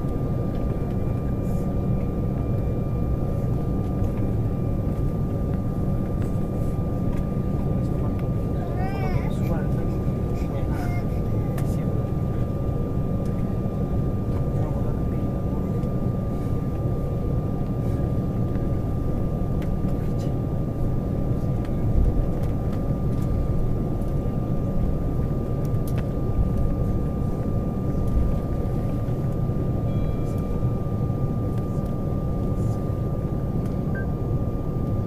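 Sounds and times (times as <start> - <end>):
jet engines running at low power: 0.0 - 35.0
thin steady whine: 0.0 - 35.0.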